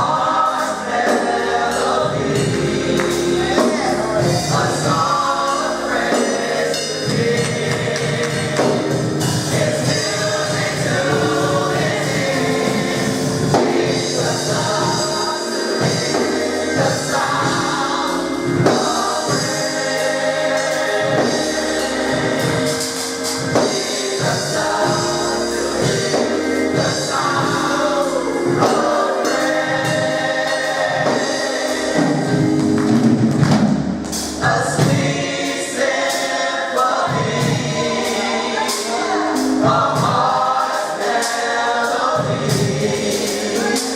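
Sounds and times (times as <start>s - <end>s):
bass: 0.0s - 36.1s
choir singing gospel: 0.0s - 43.9s
drums: 0.0s - 43.9s.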